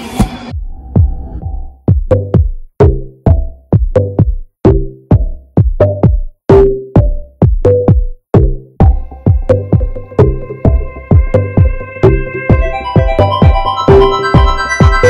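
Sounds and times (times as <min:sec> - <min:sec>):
bass and synth notes: 0:00.0 - 0:15.0
electronic drum-machine beat: 0:00.1 - 0:15.0.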